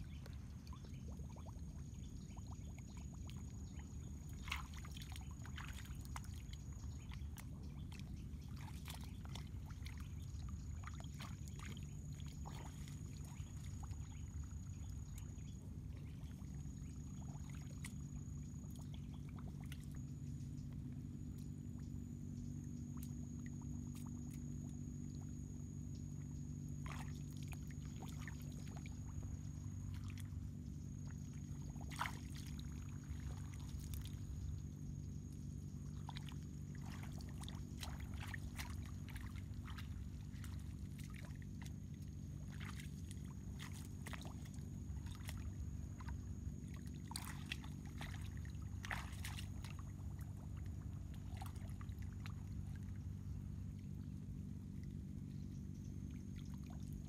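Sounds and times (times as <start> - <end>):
muddy water splashing: 0.0 - 20.1, 22.5 - 57.0
low hum: 0.0 - 57.0.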